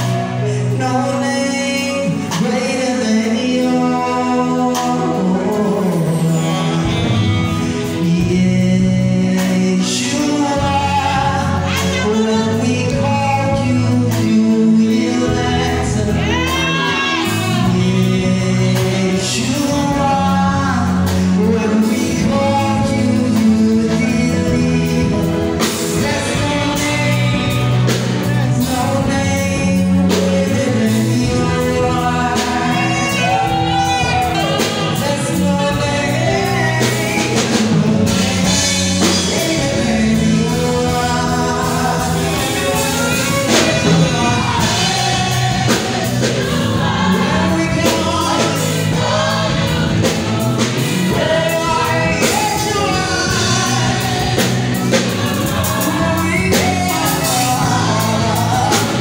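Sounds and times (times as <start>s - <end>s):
man singing into a microphone: 0.0s - 59.0s
sustained instrumental chords: 0.0s - 59.0s.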